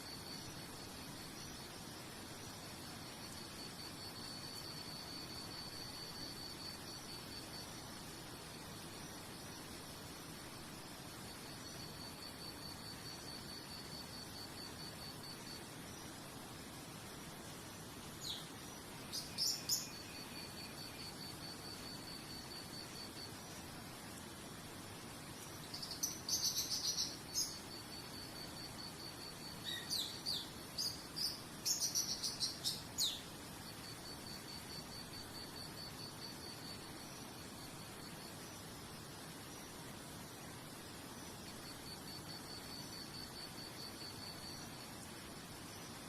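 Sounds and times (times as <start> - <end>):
cricket trilling: 0.0 - 46.0
steady hiss: 0.0 - 46.0.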